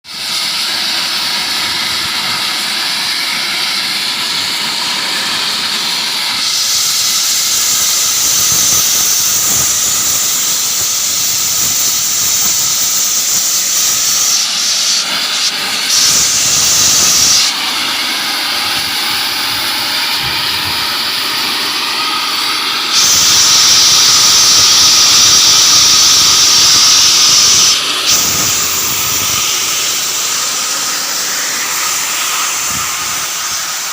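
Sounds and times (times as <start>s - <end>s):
steam venting hiss: 0.0s - 33.9s.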